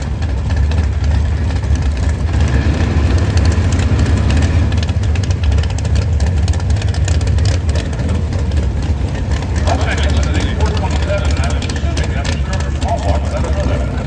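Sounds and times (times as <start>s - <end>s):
race car engines idling: 0.0s - 14.0s.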